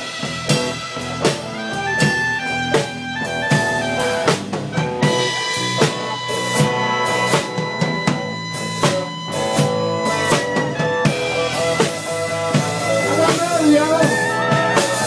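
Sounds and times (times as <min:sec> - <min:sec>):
drum kit beat: 0:00.0 - 0:15.0
electric guitar: 0:00.0 - 0:15.0
rock band playing: 0:00.0 - 0:15.0
saxophone melody: 0:00.0 - 0:15.0.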